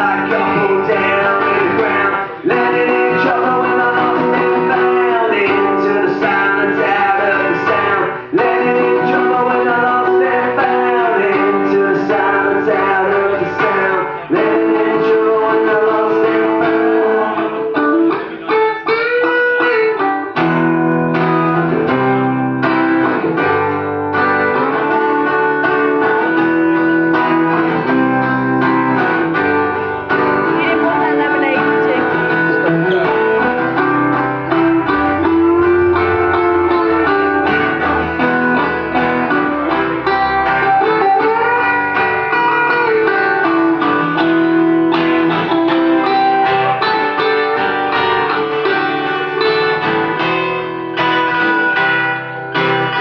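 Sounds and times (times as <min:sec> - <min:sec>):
bass line: 0:00.0 - 0:18.8, 0:19.7 - 0:53.0
guitar pitch bends: 0:00.0 - 0:53.0
guitar-led band music: 0:00.0 - 0:53.0.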